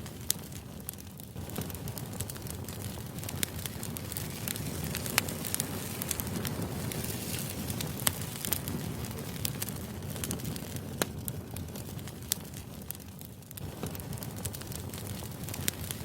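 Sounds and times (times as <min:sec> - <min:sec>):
sharp crackles and pops: 0:00.0 - 0:16.0.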